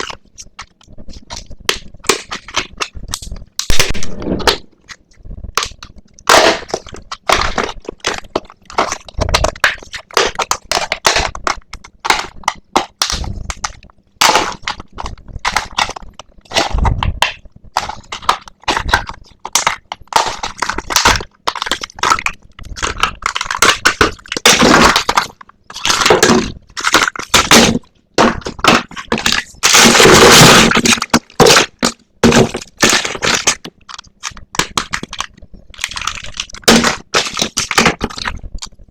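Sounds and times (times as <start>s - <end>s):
crackling plastic and cardboard: 0.0s - 38.9s
packaging crumpling: 5.5s - 38.8s.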